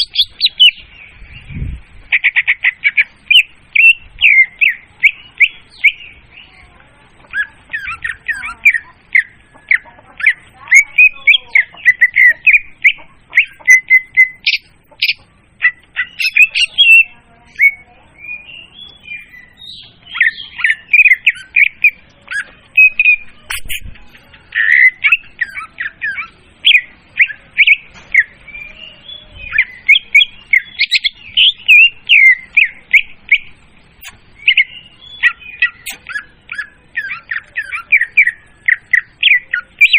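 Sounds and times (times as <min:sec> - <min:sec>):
bird song chirps and whistles: 0:00.0 - 0:06.6, 0:07.3 - 0:39.9.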